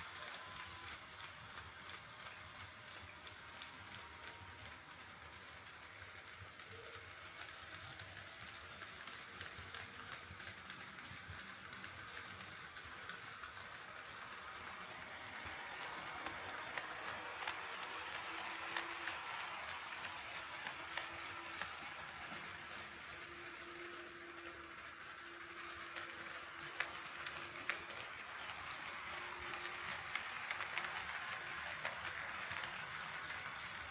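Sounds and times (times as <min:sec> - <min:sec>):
model train running hiss: 0:00.0 - 0:33.9
model train wheels clicking: 0:00.0 - 0:33.9.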